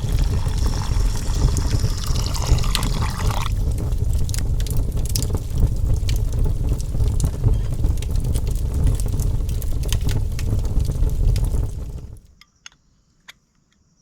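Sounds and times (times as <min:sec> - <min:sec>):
wind buffeting microphone: 0:00.0 - 0:12.3
sharp crackles: 0:00.0 - 0:12.4.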